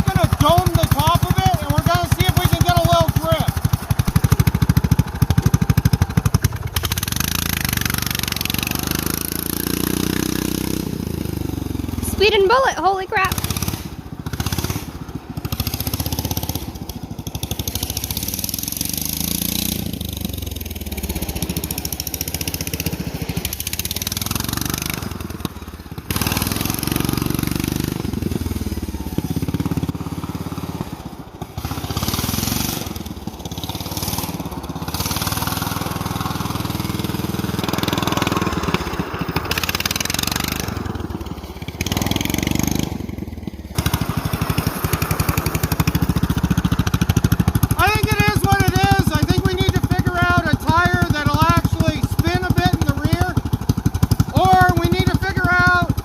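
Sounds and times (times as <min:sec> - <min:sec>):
lawn tractor engine revving: 0:00.0 - 0:56.0.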